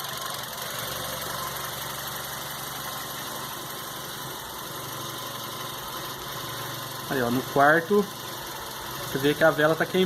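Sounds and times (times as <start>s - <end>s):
car engine idling with misfire: 0.0s - 10.0s.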